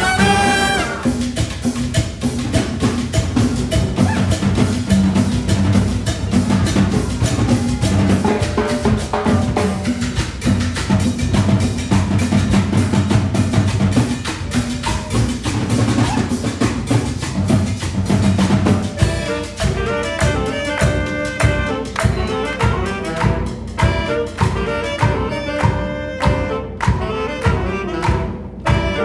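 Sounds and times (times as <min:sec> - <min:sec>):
congas: 0:00.0 - 0:29.0.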